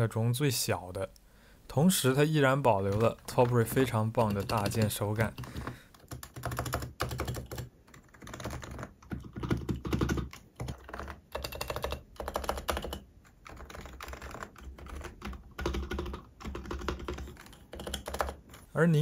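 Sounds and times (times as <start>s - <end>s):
soft keyboard typing: 2.6s - 19.0s.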